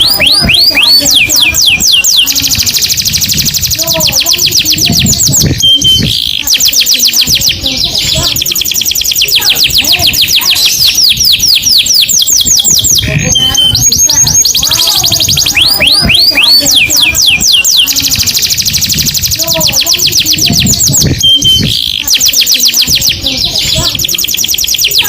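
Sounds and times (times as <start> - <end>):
canary singing trills: 0.0 - 25.0.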